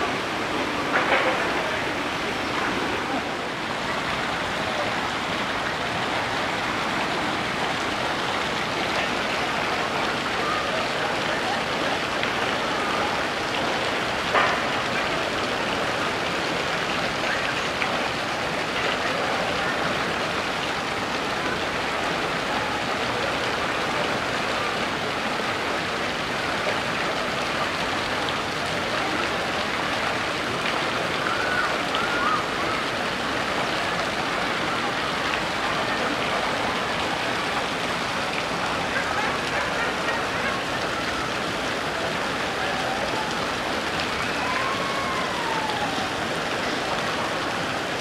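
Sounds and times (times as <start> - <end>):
running water rushing: 0.0 - 48.0.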